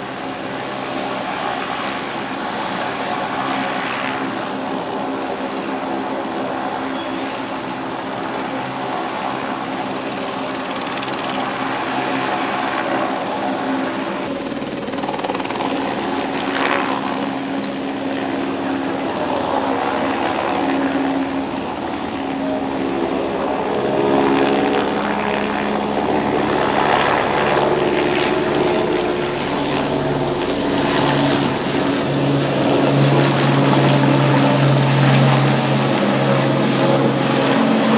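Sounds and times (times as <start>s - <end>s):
helicopter rotor and engine drone: 0.0s - 37.9s.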